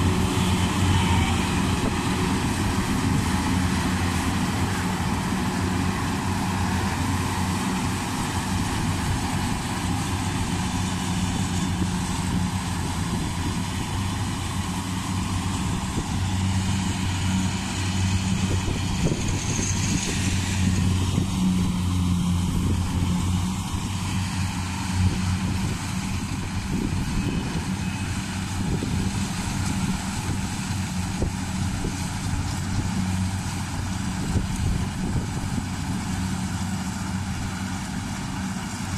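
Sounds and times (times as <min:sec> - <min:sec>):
combine harvester engine hum: 0:00.0 - 0:38.9.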